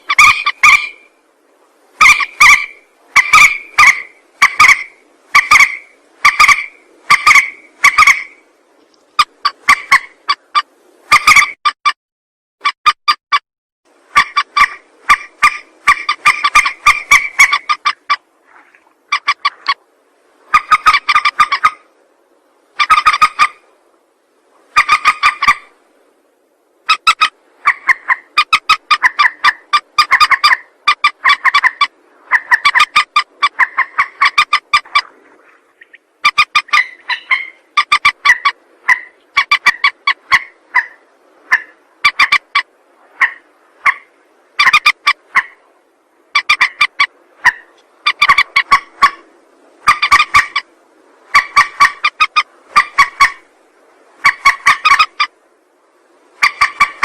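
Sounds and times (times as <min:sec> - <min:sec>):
rail bird calls: 0:00.0 - 0:01.3, 0:01.9 - 0:11.6, 0:14.1 - 0:21.9, 0:22.6 - 0:23.8, 0:24.6 - 0:25.8, 0:26.8 - 0:53.5, 0:54.2 - 0:55.4, 0:56.3 - 0:57.0.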